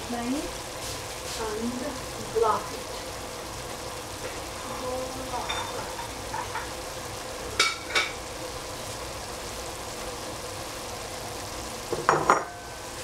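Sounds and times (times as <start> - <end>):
vegetables sizzling in a pot: 0.0 - 13.0.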